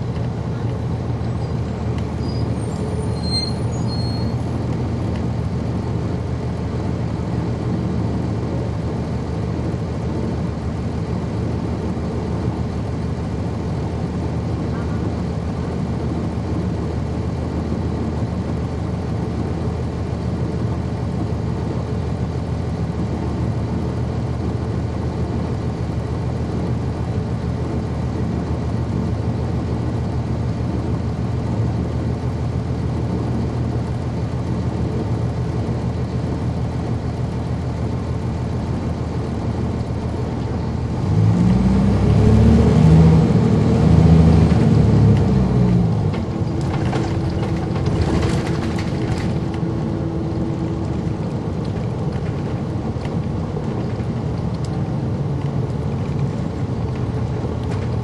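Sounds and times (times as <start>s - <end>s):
diesel bus engine droning: 0.0s - 58.0s.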